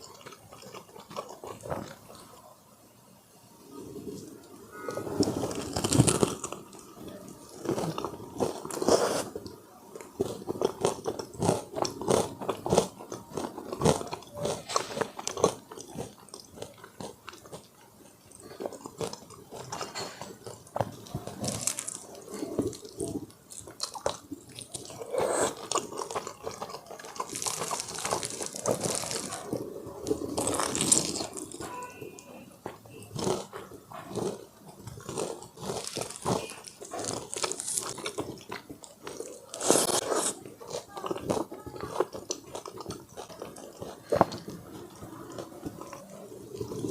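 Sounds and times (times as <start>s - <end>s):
chewing and crackling: 0.0s - 2.7s, 3.6s - 46.9s.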